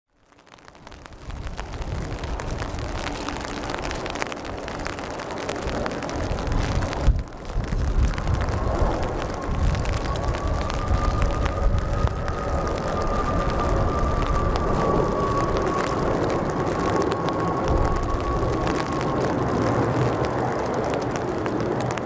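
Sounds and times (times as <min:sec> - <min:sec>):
rain: 0:00.1 - 0:22.0
wind: 0:00.1 - 0:22.0
jet engine whine: 0:01.5 - 0:22.0.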